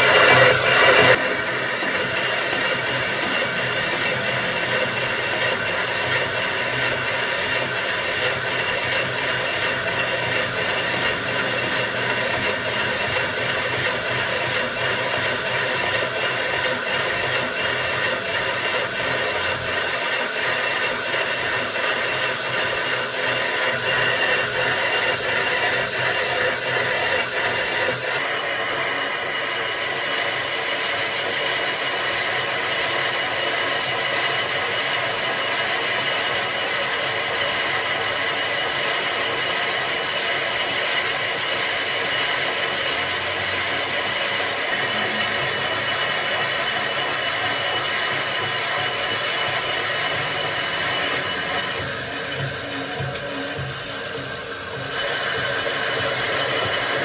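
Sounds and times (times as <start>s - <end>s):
machine humming: 0.0s - 57.0s
metal cutting scraping: 0.0s - 57.0s.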